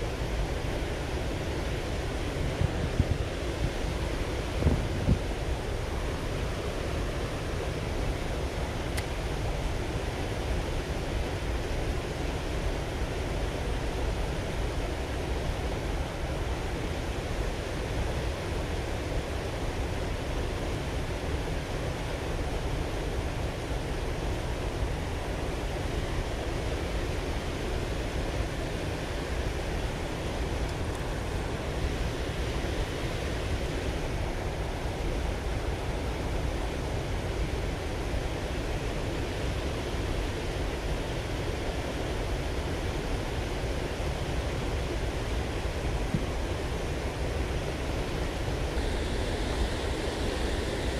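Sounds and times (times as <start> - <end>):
river water rushing over weir: 0.0 - 50.9.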